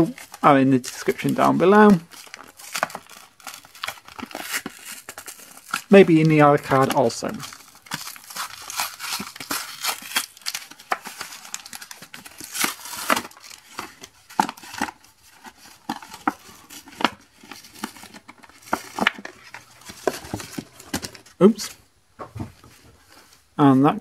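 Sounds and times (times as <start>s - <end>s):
plastic blister pack tearing: 0.0s - 21.6s.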